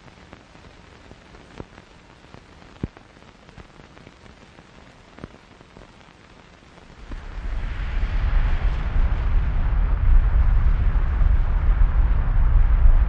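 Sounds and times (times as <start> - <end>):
crackles and sharp clicks: 0.0 - 13.0
steady hiss: 0.0 - 13.0.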